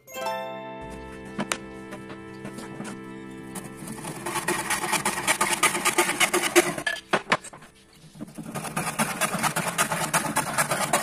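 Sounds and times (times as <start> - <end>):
hand saw cutting wood: 1.9 - 11.0.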